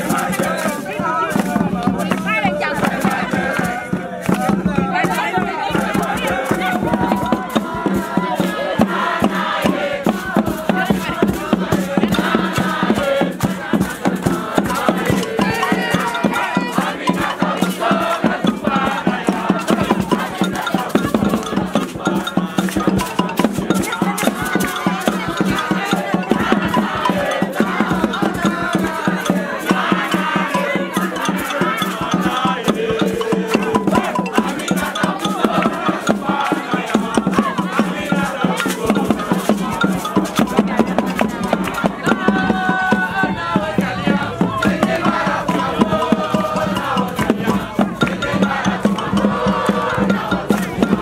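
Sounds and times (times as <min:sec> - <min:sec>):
group singing and chanting: 0:00.0 - 0:51.0
percussion strikes: 0:00.0 - 0:51.0.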